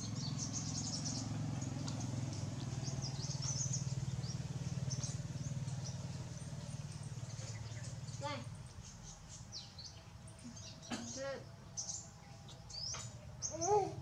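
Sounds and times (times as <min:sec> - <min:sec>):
low mechanical hum: 0:00.0 - 0:14.0
small birds chirping: 0:00.0 - 0:14.0.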